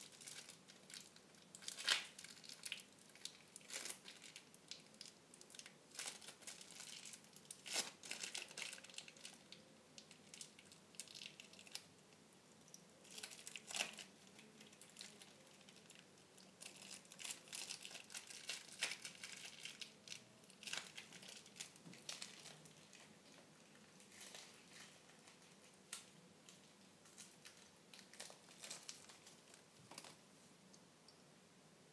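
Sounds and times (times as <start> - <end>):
packaging crinkling and rustling: 0.0 - 11.9, 13.0 - 30.2.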